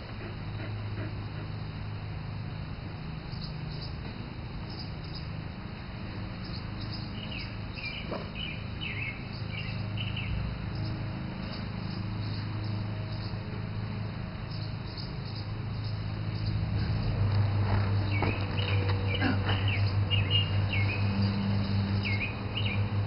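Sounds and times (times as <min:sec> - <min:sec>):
steady low hum: 0:00.0 - 0:23.0
birds chirping: 0:03.3 - 0:05.4, 0:06.3 - 0:23.0.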